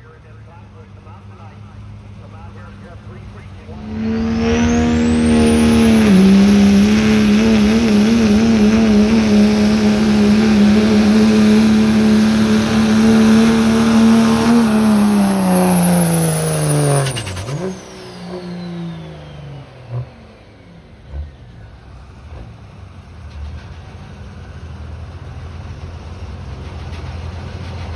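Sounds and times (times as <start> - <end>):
diesel truck engine revving: 0.0 - 27.9.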